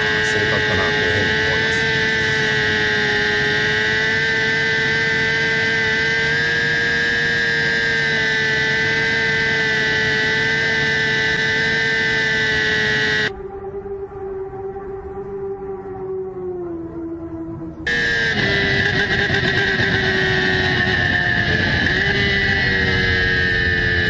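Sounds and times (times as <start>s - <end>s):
motorcycle engine at full throttle: 0.0s - 13.4s, 17.8s - 24.0s.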